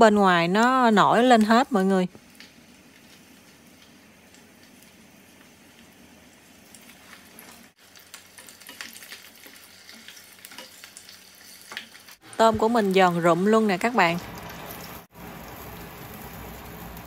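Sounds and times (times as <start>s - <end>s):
food deep-frying in oil: 0.0s - 17.0s
oil crackles and pops: 1.2s - 13.1s, 13.8s - 17.0s.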